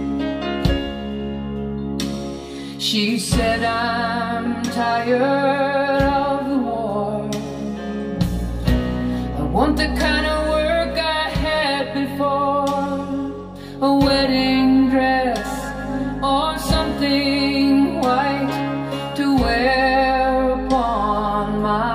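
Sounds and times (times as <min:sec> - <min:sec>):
bass: 0:00.0 - 0:21.9.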